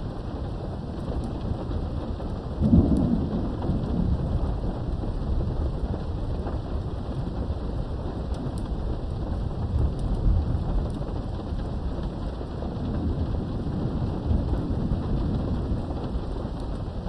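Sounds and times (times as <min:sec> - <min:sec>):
rolling thunder rumble: 0:00.0 - 0:17.0
steady rain: 0:00.0 - 0:17.0.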